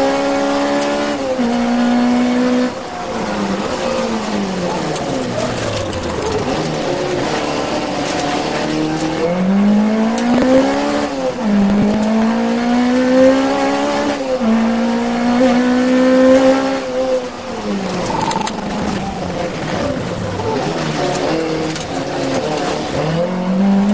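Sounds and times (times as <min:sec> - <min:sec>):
rally car engine revving: 0:00.0 - 0:23.9.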